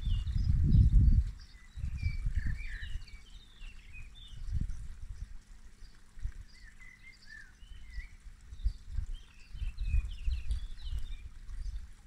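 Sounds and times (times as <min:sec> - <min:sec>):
small birds chirping: 0:00.0 - 0:12.0
wind rumbling on microphone: 0:00.0 - 0:12.0.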